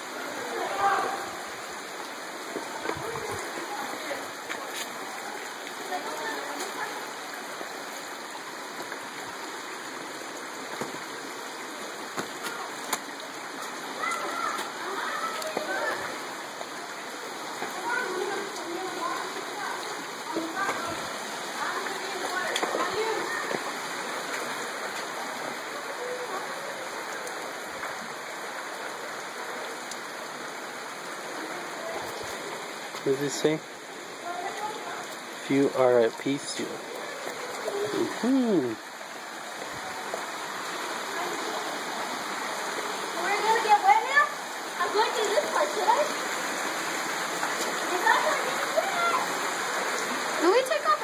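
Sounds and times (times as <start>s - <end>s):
mountain stream rushing: 0.0s - 51.0s.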